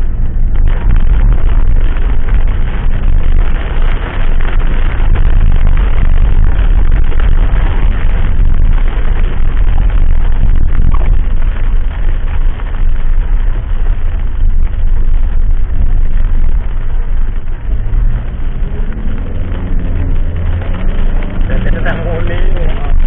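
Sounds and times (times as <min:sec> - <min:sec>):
road and wind noise: 0:00.0 - 0:23.0
vehicle engine speeding up: 0:00.0 - 0:23.0.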